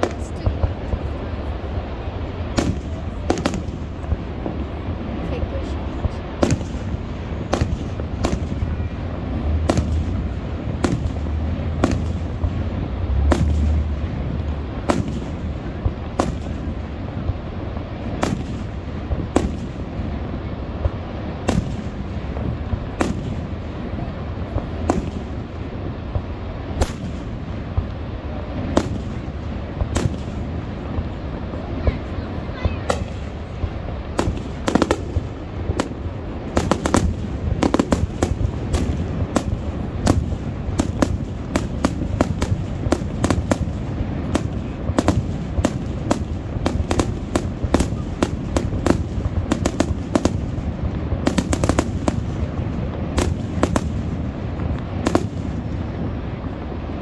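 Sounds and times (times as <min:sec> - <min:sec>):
fireworks bursting with bangs: 0:00.0 - 0:57.0
low rumble: 0:00.0 - 0:57.0.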